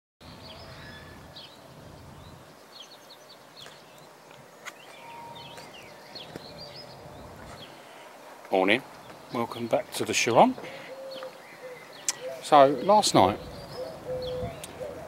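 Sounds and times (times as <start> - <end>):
songbirds chirping and singing: 0.2 - 15.0.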